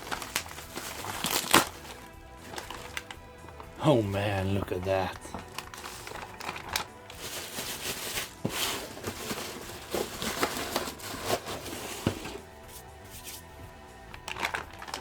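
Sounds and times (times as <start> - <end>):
plastic packaging crinkling: 0.0 - 12.4, 14.1 - 15.0.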